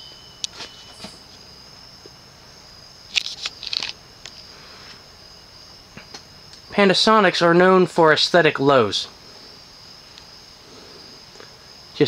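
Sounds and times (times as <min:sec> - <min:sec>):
steady high-pitched fan tone: 0:00.0 - 0:12.0.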